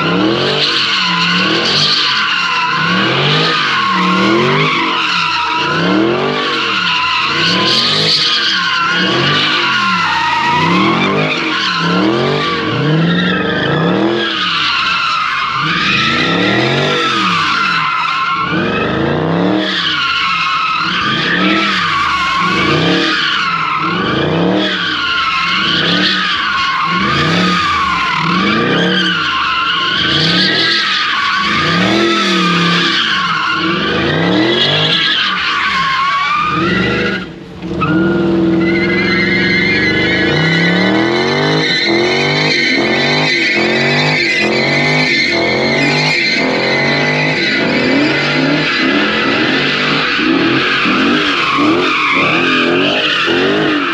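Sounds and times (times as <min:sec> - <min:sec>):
car engine revving: 0:00.0 - 0:53.9
tire squeal: 0:00.0 - 0:53.9.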